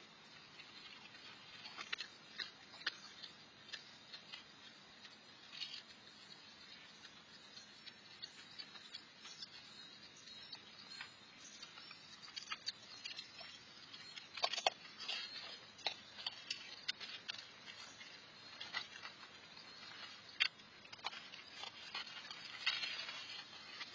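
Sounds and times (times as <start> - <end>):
animals crunching dry food: 0.0 - 23.9.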